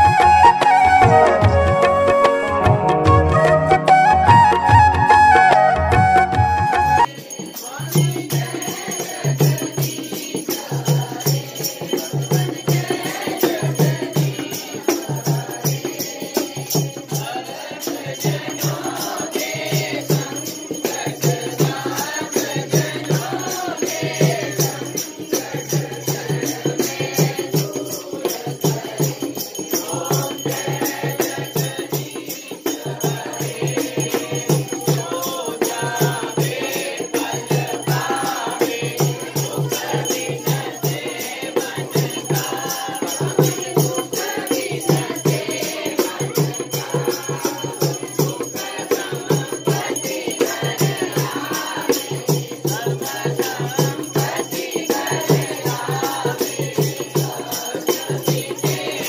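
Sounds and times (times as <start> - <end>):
group singing a hymn: 6.9 - 59.0.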